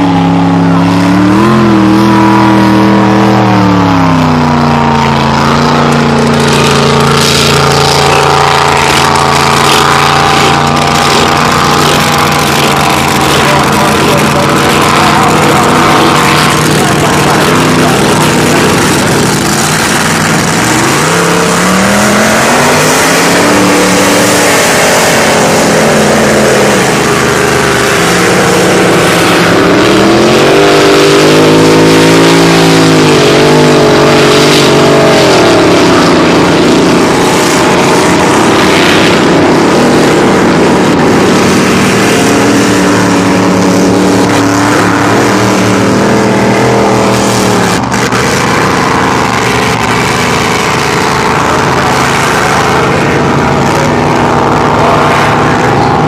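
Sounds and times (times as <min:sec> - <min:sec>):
racing boat engines passing: 0:00.0 - 0:56.0.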